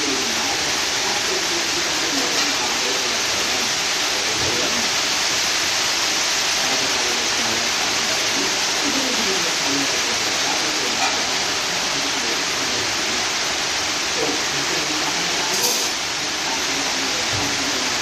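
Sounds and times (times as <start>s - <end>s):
faint voices: 0.0s - 5.2s, 6.4s - 18.0s
loud rushing hiss: 0.0s - 18.0s.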